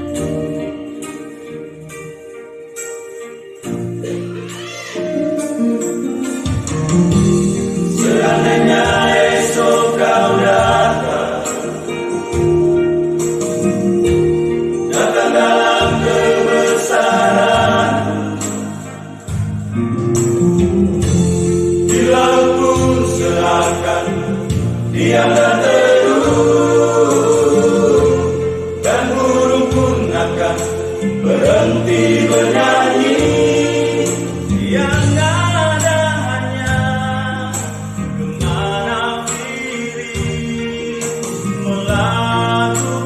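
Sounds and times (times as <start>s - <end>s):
light percussion beat: 5.4s - 43.0s
vocal group singing in harmony: 7.4s - 43.0s.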